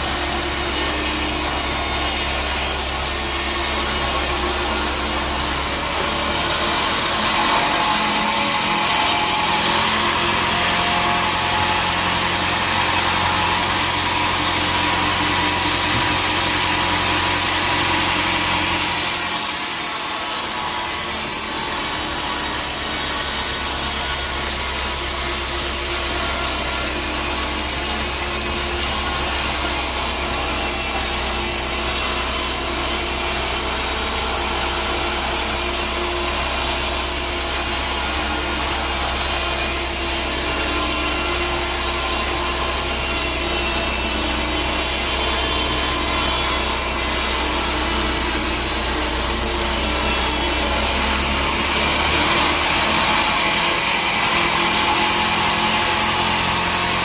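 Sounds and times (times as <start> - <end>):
saw blade cutting log: 0.0 - 57.0
sawmill machine hum: 0.0 - 57.0.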